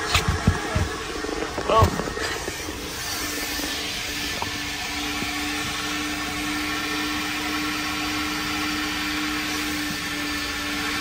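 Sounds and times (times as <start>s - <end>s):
machine motor whine: 0.0s - 11.0s
hiss: 2.2s - 11.0s.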